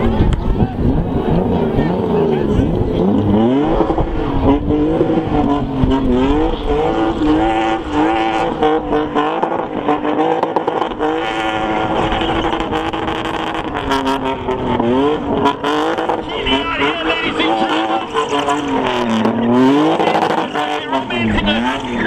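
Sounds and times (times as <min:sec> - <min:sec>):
car engine revving hard: 0:00.0 - 0:22.0
rear tyres spinning: 0:00.0 - 0:22.0.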